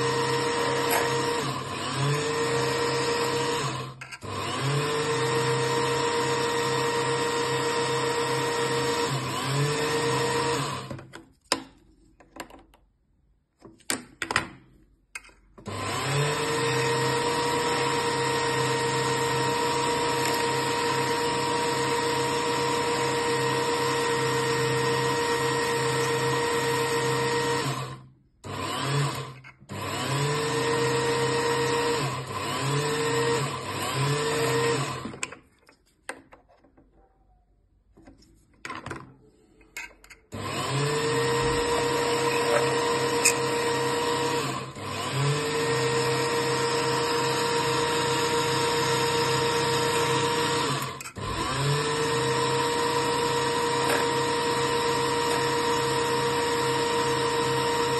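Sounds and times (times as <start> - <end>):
lathe motor whining: 0.0 - 11.0, 15.7 - 35.2, 40.3 - 57.9.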